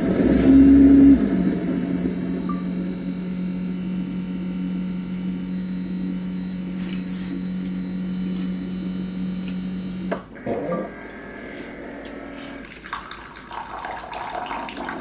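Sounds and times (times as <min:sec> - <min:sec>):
coffee maker humming: 0:00.0 - 0:15.0.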